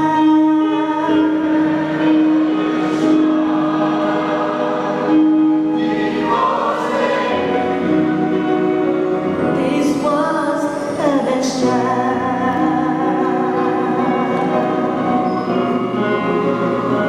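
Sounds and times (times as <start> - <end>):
instrumental accompaniment: 0.0 - 17.0
choir singing christmas music: 0.6 - 10.0, 11.6 - 17.0.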